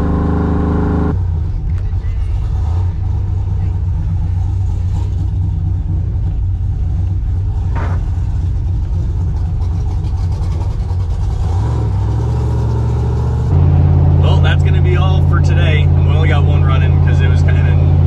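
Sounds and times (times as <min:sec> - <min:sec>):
engine running at low speed: 0:00.0 - 0:18.0.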